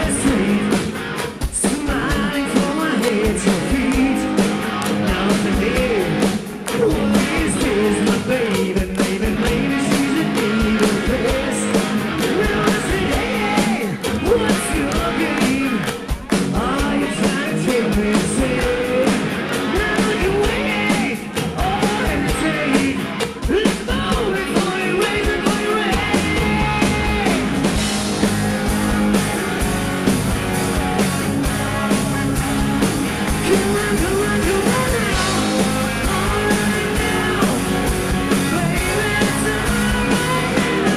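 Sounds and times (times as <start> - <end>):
man singing: 0.0 - 27.6, 33.3 - 40.9
drum beat: 0.0 - 40.9
electric guitars: 0.0 - 40.9.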